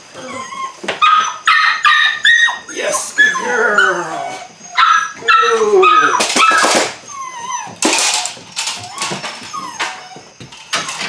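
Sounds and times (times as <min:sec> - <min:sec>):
puppy whining: 0:00.0 - 0:11.0
puppy barking and yipping: 0:00.3 - 0:11.0.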